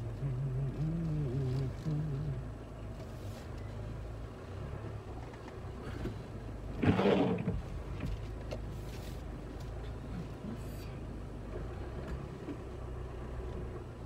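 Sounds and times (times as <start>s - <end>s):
engine and tyre drone in cabin: 0.0s - 14.0s.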